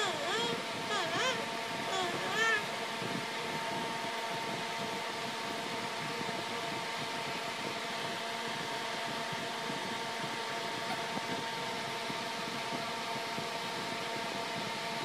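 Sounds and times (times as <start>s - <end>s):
room fan whirring: 0.0s - 15.0s.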